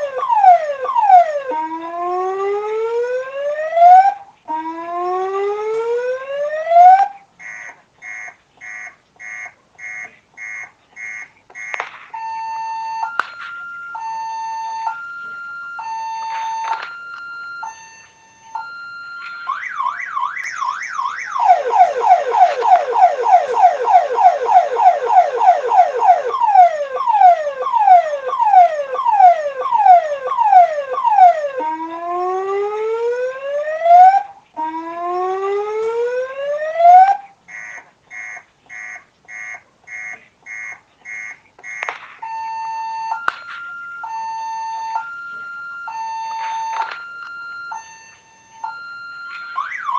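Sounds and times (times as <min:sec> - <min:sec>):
ambulance siren: 0:00.0 - 0:08.9, 0:09.8 - 0:49.9.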